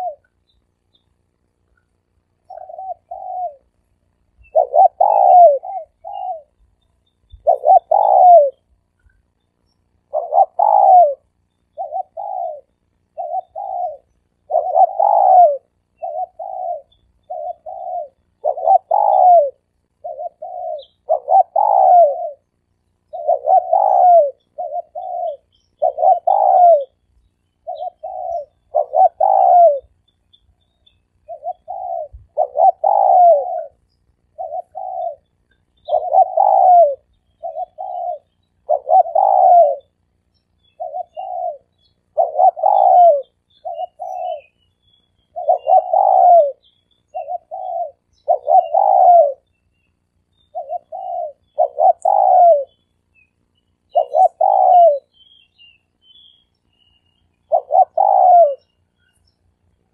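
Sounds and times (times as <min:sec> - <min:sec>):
dove cooing: 0:00.0 - 0:01.6, 0:02.3 - 0:30.0, 0:30.9 - 0:44.6, 0:45.2 - 0:52.8, 0:53.8 - 0:55.2, 0:56.8 - 0:59.1.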